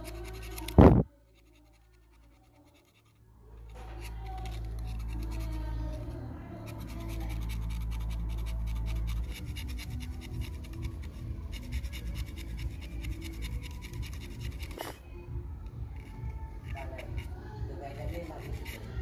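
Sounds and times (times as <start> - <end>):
knife blade scraping metal: 0.0 - 15.0, 16.0 - 19.0.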